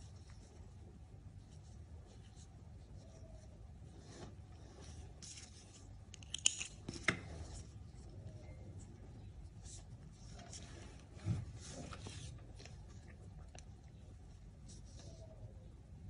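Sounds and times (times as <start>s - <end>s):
crochet hook rustling yarn: 0.0s - 15.4s.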